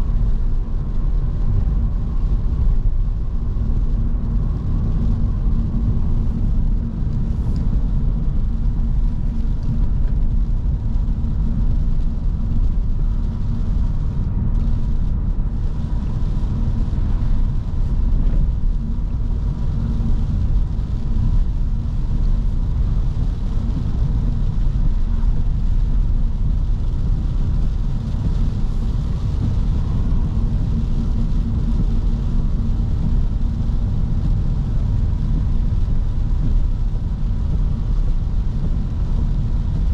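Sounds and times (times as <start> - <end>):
car engine drone: 0.0 - 39.9
tyre noise on wet road: 0.0 - 39.9.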